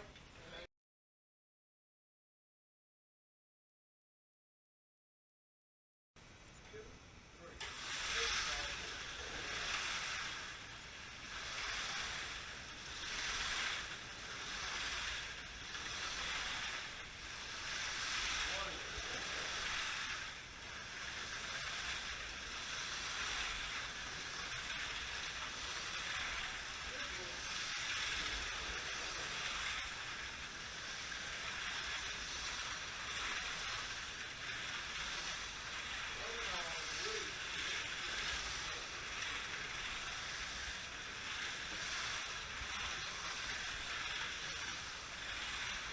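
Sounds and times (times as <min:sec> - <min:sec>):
slot cars whirring past: 0:07.6 - 0:45.9.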